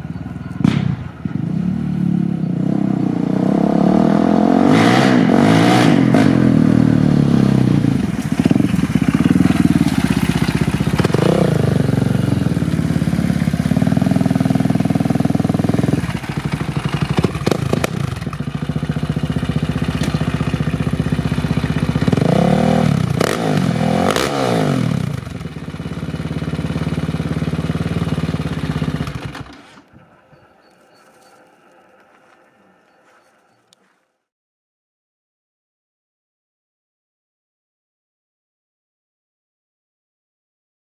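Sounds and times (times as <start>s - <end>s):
motorbike engine throttle blips: 0.0s - 34.0s.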